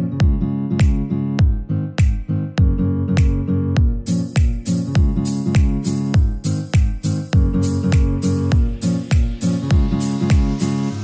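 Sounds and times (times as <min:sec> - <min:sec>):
held chords: 0:00.0 - 0:11.0
music with steady beat: 0:00.0 - 0:11.0.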